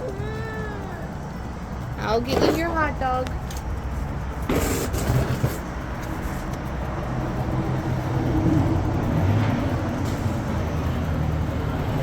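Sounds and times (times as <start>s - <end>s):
faint engine hum: 0.0s - 12.0s
vehicle rumble: 0.0s - 12.0s.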